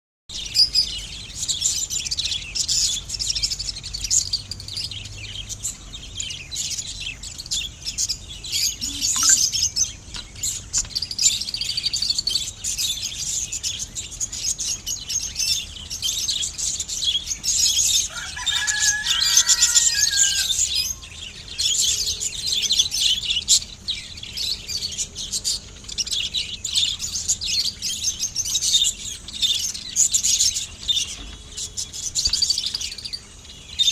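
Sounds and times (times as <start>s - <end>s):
lower clearer bird call: 0.3s - 33.9s
budgerigars chirping and chattering: 0.4s - 33.9s.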